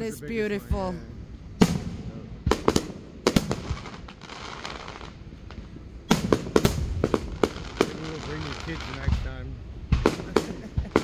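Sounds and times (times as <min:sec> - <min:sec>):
firework bangs: 0:01.5 - 0:11.0
faint firework pops: 0:01.6 - 0:11.0.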